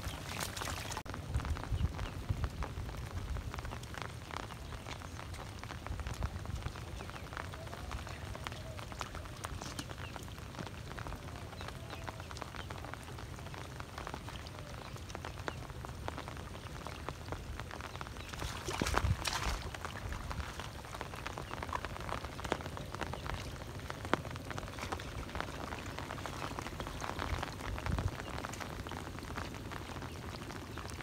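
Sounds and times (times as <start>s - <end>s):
light rain on floodwater: 0.0s - 31.0s
wind rumbling on microphone: 0.0s - 31.0s.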